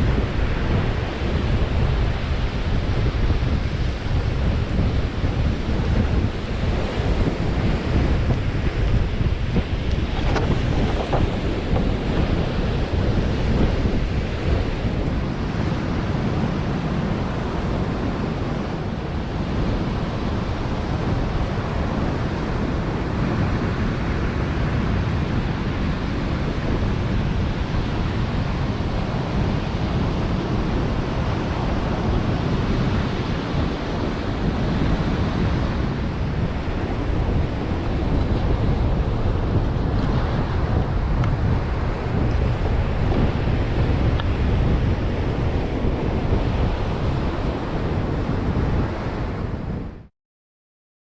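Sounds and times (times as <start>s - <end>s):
sea surf rushing: 0.0s - 49.9s
wind blowing across microphone: 0.0s - 50.1s.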